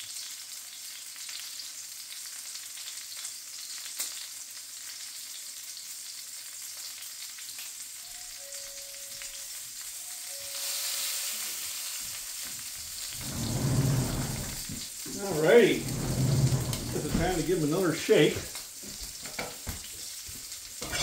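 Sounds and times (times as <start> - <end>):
sausages sizzling in a frying pan: 0.0 - 16.4, 17.0 - 21.0.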